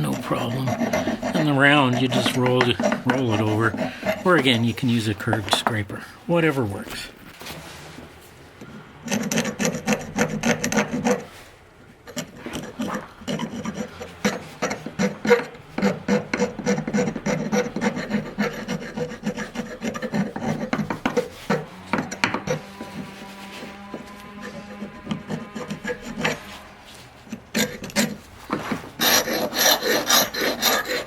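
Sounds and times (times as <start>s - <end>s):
steel card scraper on wood: 0.0s - 5.6s, 9.0s - 11.3s, 12.1s - 31.0s.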